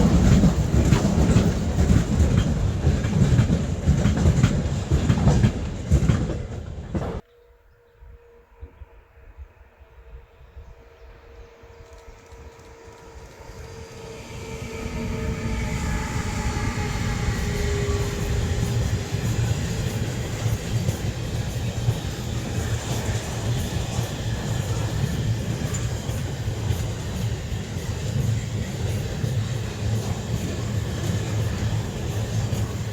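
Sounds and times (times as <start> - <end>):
train wheels clickety-clack on rails: 0.0 - 7.2, 11.7 - 32.9.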